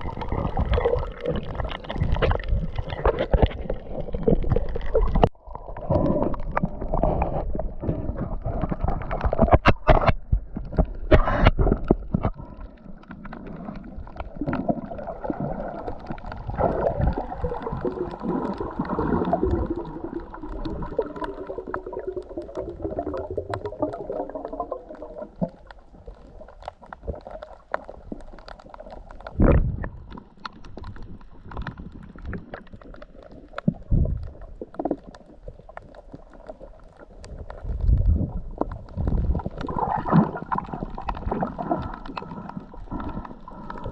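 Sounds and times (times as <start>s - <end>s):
water gurgling underwater: 0.0s - 43.9s.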